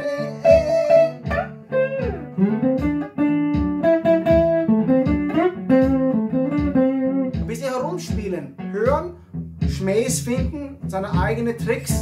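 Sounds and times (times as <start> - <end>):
blues backing track: 0.0 - 12.0
electric guitar blues lick: 0.0 - 12.0.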